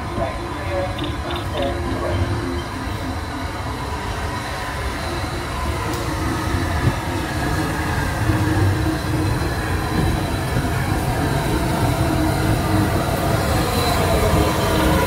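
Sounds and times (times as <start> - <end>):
steam locomotive rumbling: 0.0 - 15.0.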